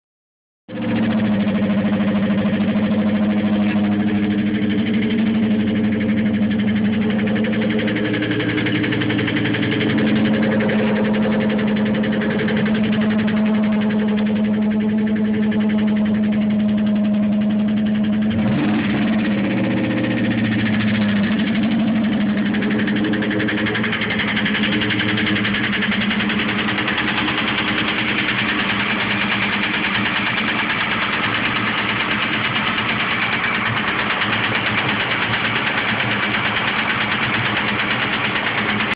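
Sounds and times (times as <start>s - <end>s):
engine idling with knocking: 0.7s - 38.9s.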